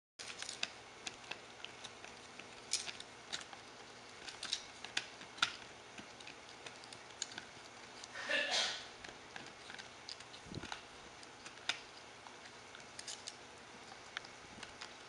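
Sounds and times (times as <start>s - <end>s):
puppy gnawing a bone: 0.2s - 8.2s, 8.9s - 15.0s.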